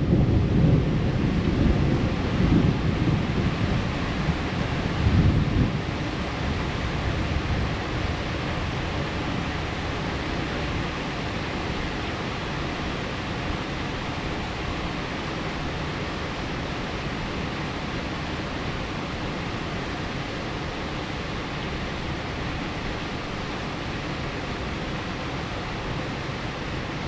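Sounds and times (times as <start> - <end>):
heavy rain pouring: 0.0 - 27.0
wind: 0.0 - 27.0.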